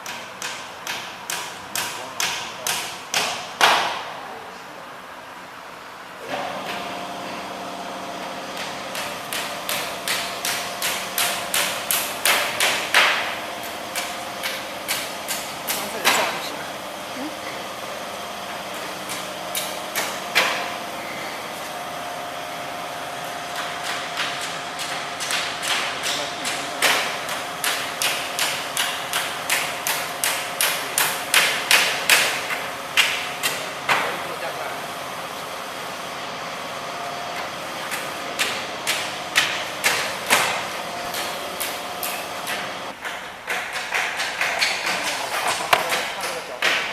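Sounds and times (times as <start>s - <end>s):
machine hum: 5.2s - 43.0s.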